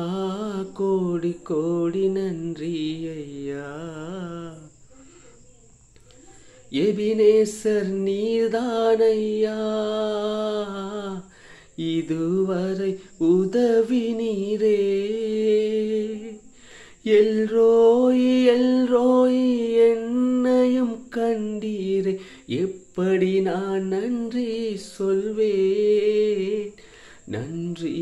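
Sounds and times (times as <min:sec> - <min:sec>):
man singing unaccompanied: 0:00.0 - 0:05.0, 0:06.6 - 0:28.0.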